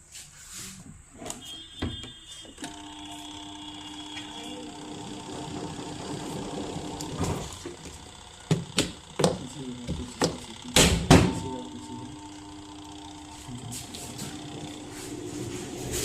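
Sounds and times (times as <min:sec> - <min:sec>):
steady low hum: 0:02.7 - 0:16.0.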